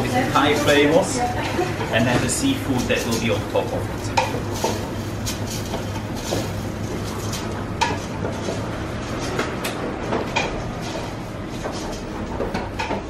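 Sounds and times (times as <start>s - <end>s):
pots and utensils clinking: 0.0s - 13.0s.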